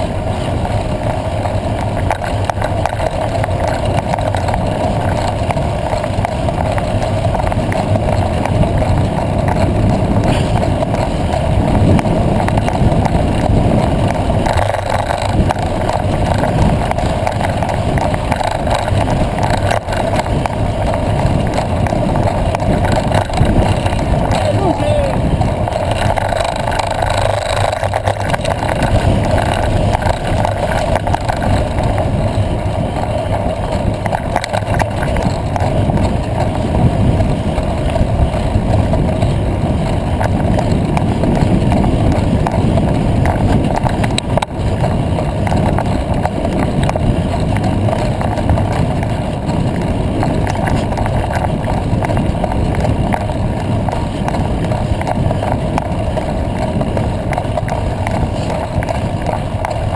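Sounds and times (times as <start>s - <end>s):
bike rumbling over dirt road: 0.0s - 59.9s
wind on microphone: 0.0s - 59.9s.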